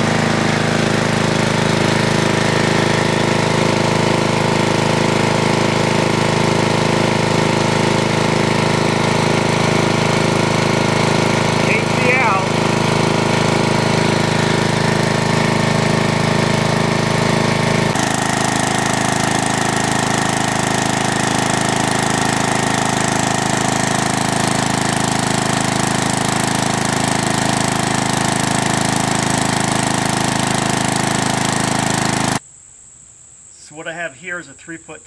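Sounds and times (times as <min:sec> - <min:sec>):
small gasoline engine running: 0:00.0 - 0:32.4.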